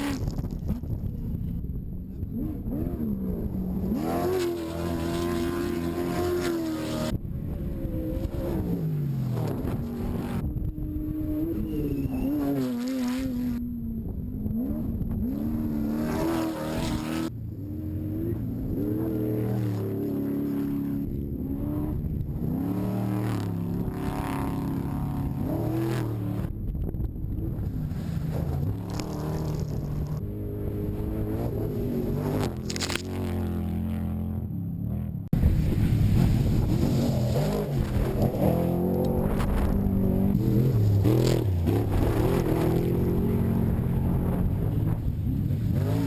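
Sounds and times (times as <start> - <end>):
race truck engines revving: 0.0 - 26.6, 27.3 - 46.0.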